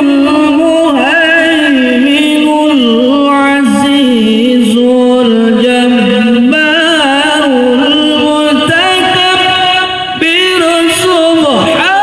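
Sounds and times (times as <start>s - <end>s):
man reciting melodically over speakers: 0.0s - 12.0s.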